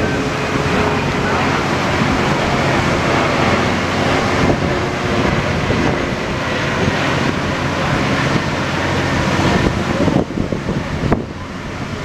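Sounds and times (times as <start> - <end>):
ferry machinery humming: 0.0 - 12.0
water rushing from outlet: 0.0 - 12.0.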